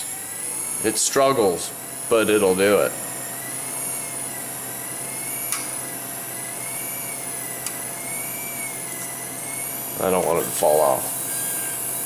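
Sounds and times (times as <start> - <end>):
electric actuator whine: 0.0 - 12.0.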